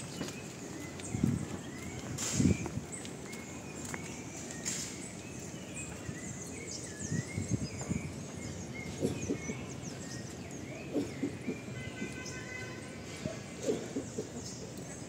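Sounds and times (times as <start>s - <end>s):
birds chirping gliding calls: 0.0s - 15.0s.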